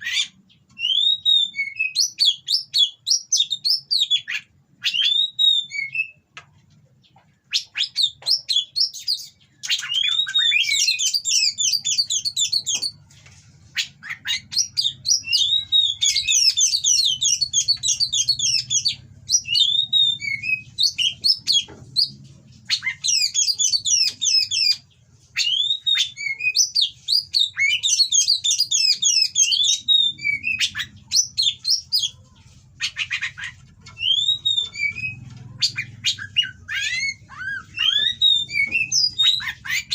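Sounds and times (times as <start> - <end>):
bird singing whistles and rattles: 0.0 - 6.2, 7.0 - 13.1, 13.7 - 32.2, 32.8 - 39.9.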